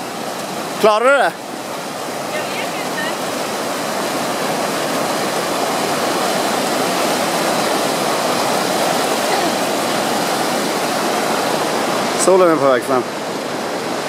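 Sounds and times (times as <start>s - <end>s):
river rushing over boulders: 0.0s - 14.0s.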